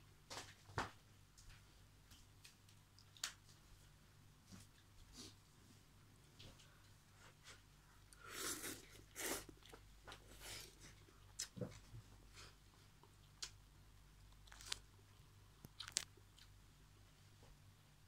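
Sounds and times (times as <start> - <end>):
faint chewing and crunching: 1.3 - 17.7.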